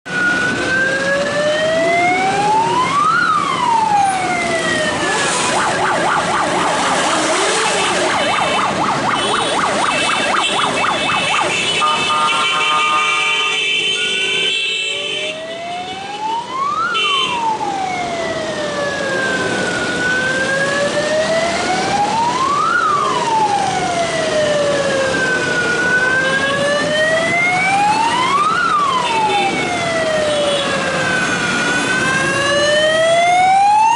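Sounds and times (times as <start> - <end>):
electronic siren wailing: 0.1 - 12.4, 15.3 - 33.9.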